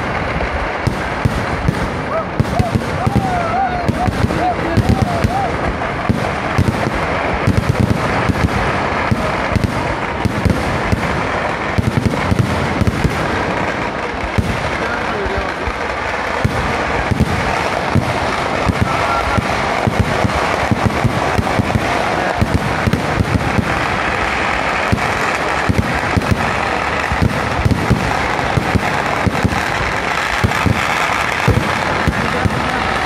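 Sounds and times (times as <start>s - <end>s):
firecracker bangs: 0.0s - 33.0s
fireworks crackling: 0.0s - 33.0s.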